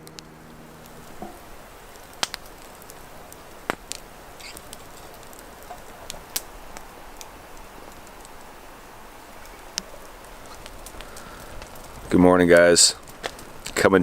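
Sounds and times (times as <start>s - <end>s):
light rain hiss: 0.0s - 14.0s
raindrops tapping: 0.0s - 14.0s.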